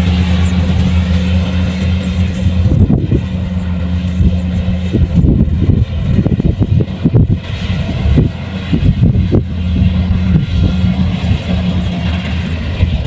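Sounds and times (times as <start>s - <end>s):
combine harvester diesel engine: 0.0s - 13.0s
low thumping and clatter: 0.0s - 13.0s.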